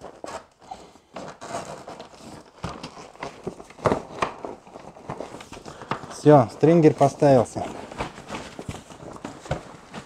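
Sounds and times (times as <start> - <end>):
pvc fabric rustling: 0.0 - 10.0.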